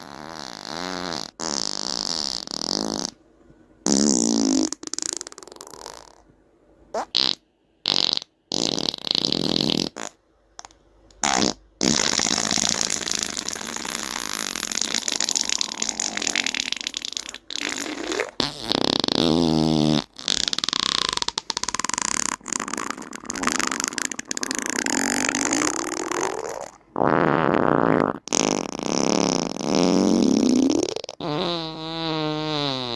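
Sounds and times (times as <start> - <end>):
fart sound effects: 0.0 - 3.2, 3.8 - 6.2, 7.0 - 10.2, 11.2 - 32.9.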